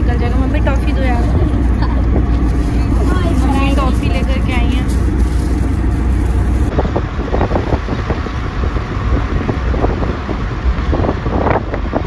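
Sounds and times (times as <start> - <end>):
car road noise: 0.0 - 12.0
wind buffeting through car window: 0.0 - 12.0.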